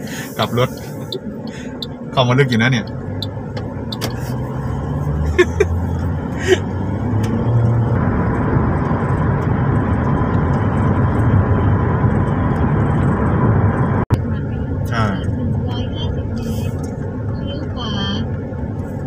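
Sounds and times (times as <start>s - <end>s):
car engine hum: 0.0s - 19.0s
tyre and road noise: 0.0s - 19.0s.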